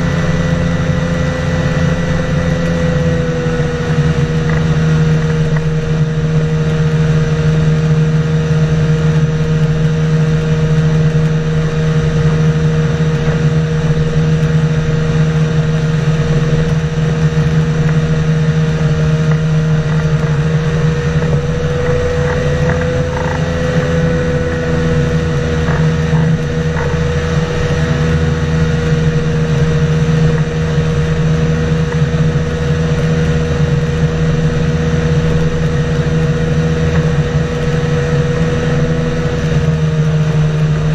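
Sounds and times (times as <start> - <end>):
ultralight engine and propeller droning: 0.0 - 40.9.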